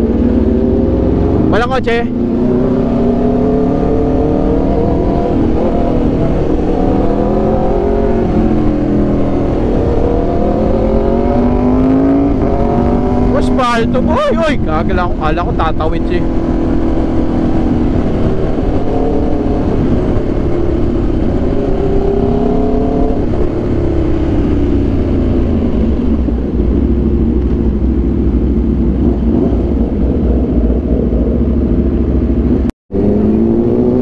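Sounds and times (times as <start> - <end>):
motorcycle engine revving: 0.0 - 34.0
wind rumble: 0.0 - 34.0.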